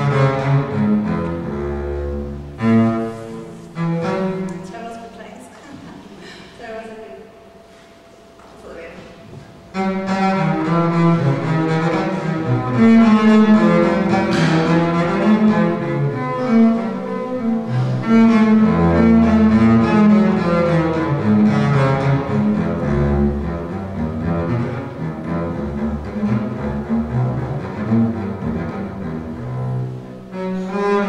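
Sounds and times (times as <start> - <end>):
bowed double bass: 0.0 - 5.0, 9.0 - 31.0.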